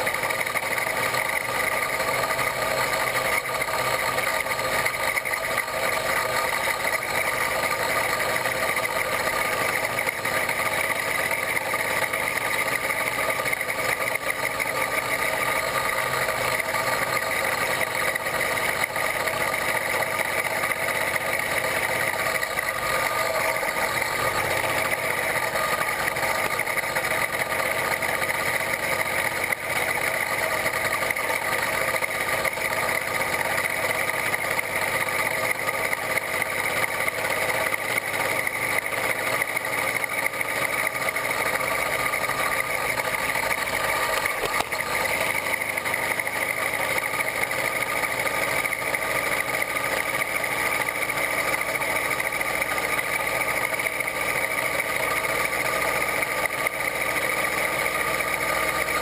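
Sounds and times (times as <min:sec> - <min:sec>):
two-stroke bicycle engine running: 0:00.0 - 0:59.0.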